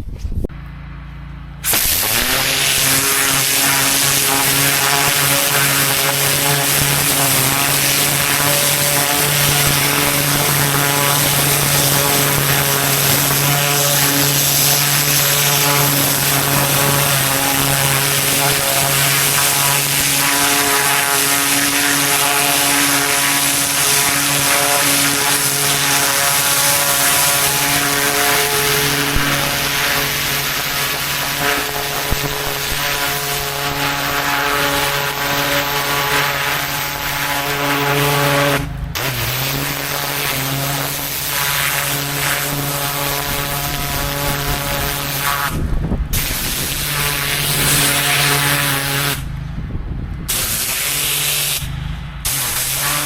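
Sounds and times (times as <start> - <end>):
pressure washer engine drone: 0.5 - 53.0
high-pressure water spray hissing: 1.6 - 49.3, 50.3 - 53.0.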